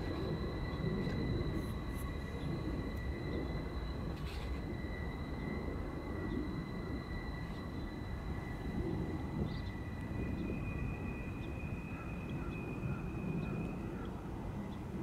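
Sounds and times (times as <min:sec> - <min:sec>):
freight train rumble: 0:00.0 - 0:15.0
high-pitched whine: 0:00.0 - 0:15.0.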